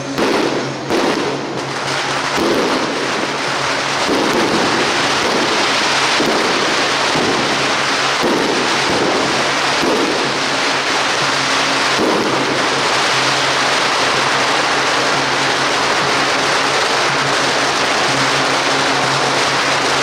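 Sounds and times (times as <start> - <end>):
firecrackers crackling: 0.0 - 20.0.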